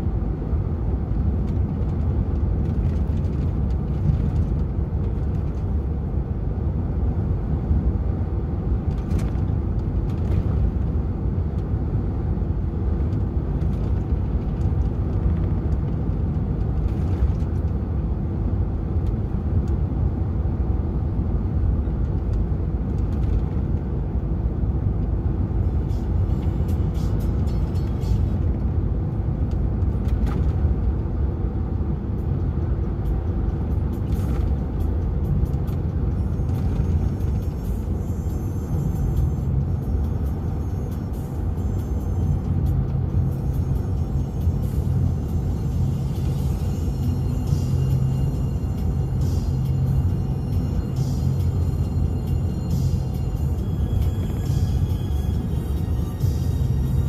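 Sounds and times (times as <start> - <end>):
road noise: 0.0 - 57.0
truck diesel engine drone: 0.0 - 57.0.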